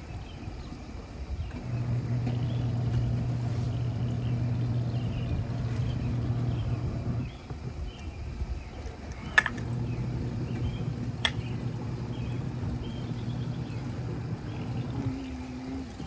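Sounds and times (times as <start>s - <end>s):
birds chirping: 0.0s - 16.0s
washing machine motor humming: 0.0s - 16.0s.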